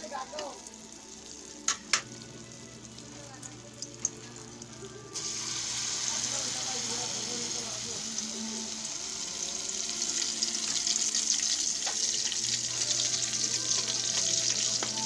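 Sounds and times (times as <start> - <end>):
patties sizzling in oil: 0.0 - 15.0.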